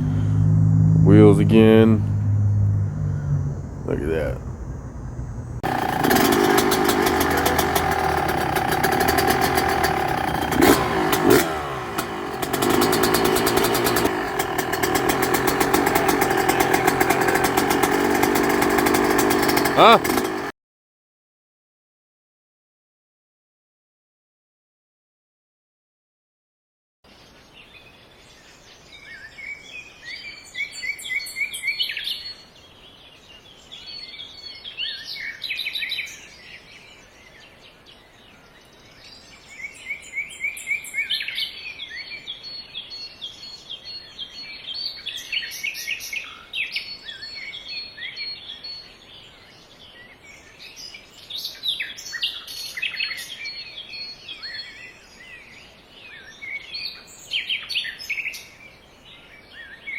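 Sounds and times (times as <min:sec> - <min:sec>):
songbirds singing: 0:03.1 - 0:20.5, 0:27.1 - 0:59.9.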